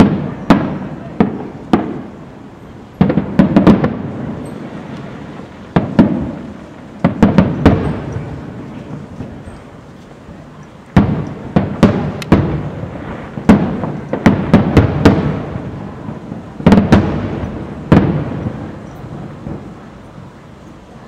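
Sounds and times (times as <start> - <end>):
distant firework bangs echoing: 0.0 - 9.8, 10.9 - 20.3.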